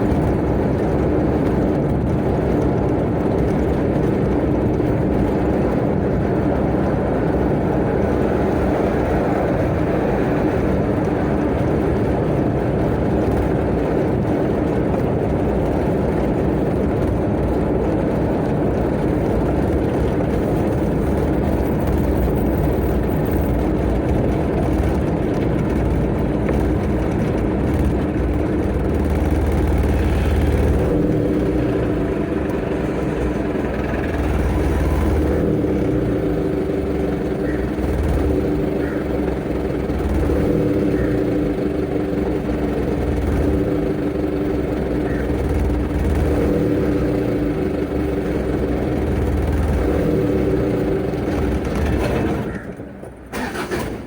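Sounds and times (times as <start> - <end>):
road noise: 0.0 - 54.0
truck engine running: 0.0 - 54.0.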